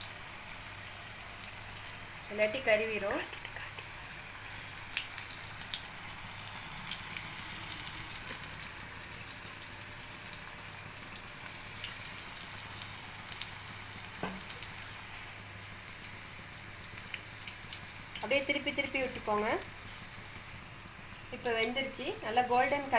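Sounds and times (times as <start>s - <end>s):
food deep-frying in hot oil: 0.0s - 22.9s
oil crackling and popping: 0.0s - 22.9s.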